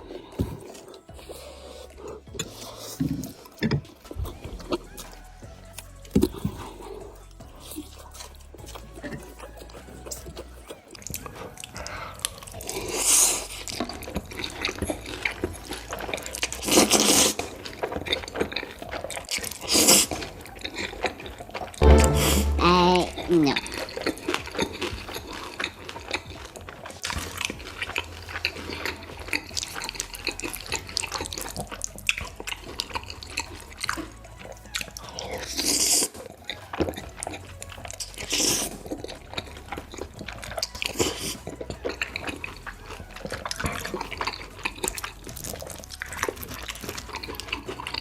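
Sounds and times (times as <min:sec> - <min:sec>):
wet mouth clicks and smacks: 0:00.2 - 0:21.8, 0:23.8 - 0:48.0
noodle slurps: 0:06.2 - 0:21.8, 0:23.6 - 0:48.0.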